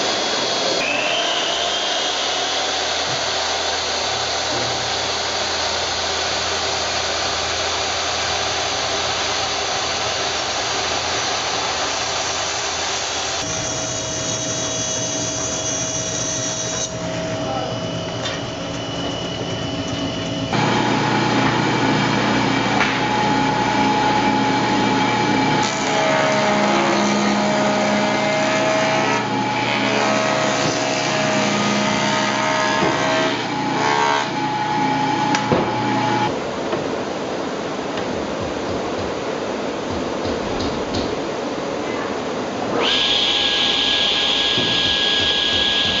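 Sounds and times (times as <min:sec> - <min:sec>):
bandsaw cutting log: 0:00.0 - 0:18.4, 0:20.5 - 0:36.3, 0:42.8 - 0:46.0
jointer cutting wood: 0:00.0 - 0:36.3, 0:42.7 - 0:46.0
table saw running: 0:00.0 - 0:36.3, 0:42.7 - 0:46.0.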